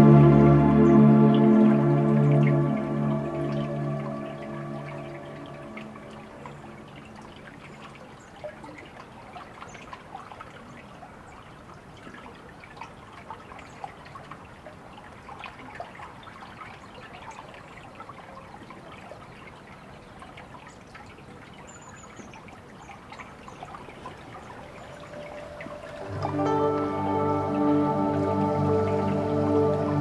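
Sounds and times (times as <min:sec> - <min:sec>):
water trickling and babbling: 0:00.0 - 0:30.0.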